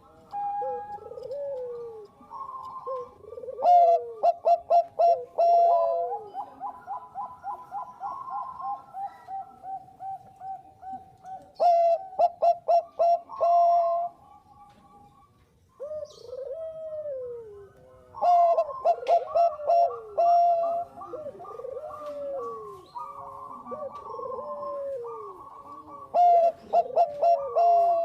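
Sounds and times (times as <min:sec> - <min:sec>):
doves cooing: 0:00.0 - 0:28.0.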